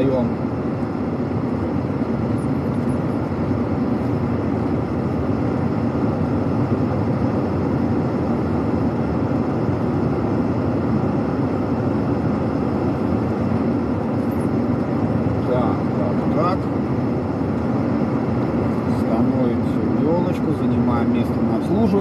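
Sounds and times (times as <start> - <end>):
truck diesel engine from inside cab: 0.0 - 22.0.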